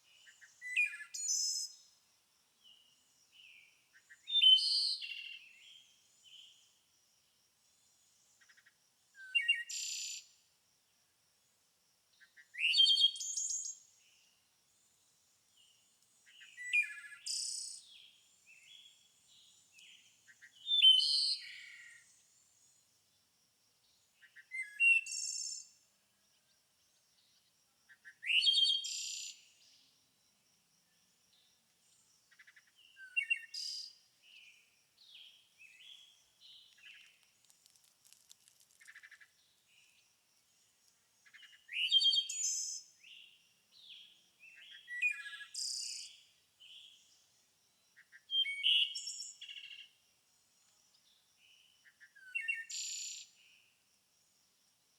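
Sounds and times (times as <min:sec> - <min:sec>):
songbird singing: 0:00.0 - 0:06.9, 0:07.7 - 0:10.4, 0:12.1 - 0:23.2, 0:23.8 - 0:30.1, 0:30.7 - 0:53.8.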